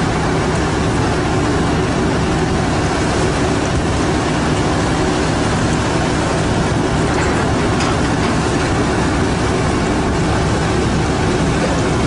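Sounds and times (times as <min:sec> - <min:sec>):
boat engine droning: 0:00.0 - 0:12.0
loud wash of noise: 0:00.0 - 0:12.0.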